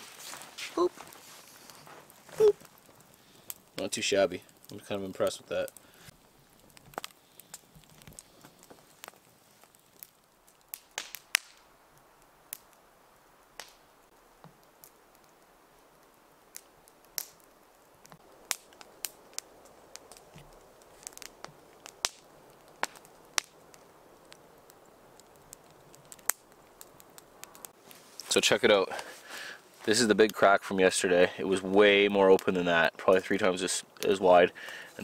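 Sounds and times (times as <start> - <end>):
campfire crackling and popping: 0.0 - 35.0
soft hiss of fire: 0.0 - 35.0.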